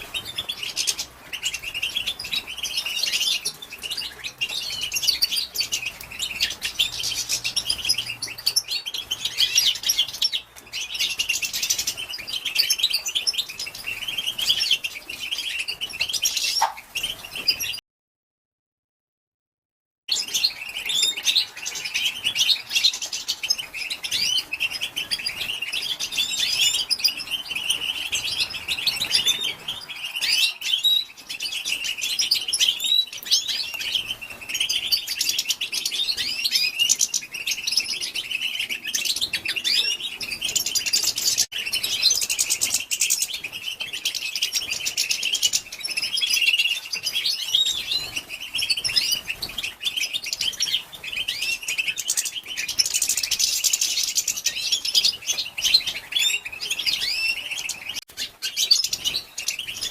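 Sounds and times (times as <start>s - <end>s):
goldfinch twittering chirps: 0.0s - 17.8s, 20.1s - 59.9s.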